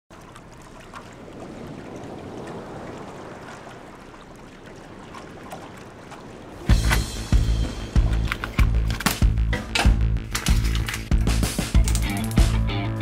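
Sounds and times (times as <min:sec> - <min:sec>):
rushing wind and water: 0:00.1 - 0:12.4.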